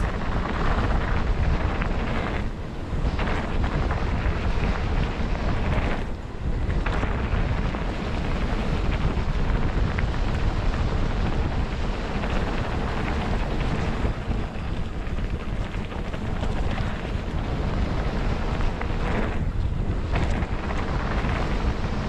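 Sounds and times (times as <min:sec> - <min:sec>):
bike ticks and knocks: 0:00.0 - 0:22.0
wind buffeting microphone: 0:00.0 - 0:22.0.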